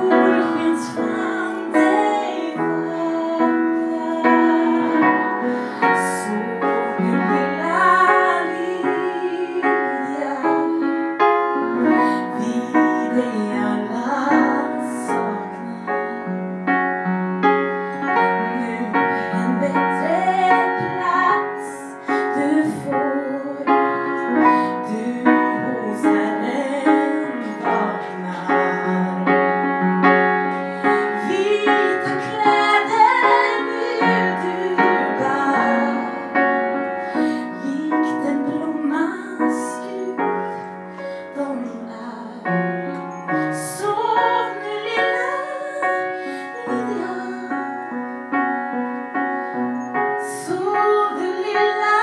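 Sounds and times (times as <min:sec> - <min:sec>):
woman singing with vibrato: 0:00.0 - 0:16.2, 0:18.2 - 0:29.4, 0:30.5 - 0:40.4, 0:43.5 - 0:48.1
piano accompaniment: 0:00.0 - 0:52.0.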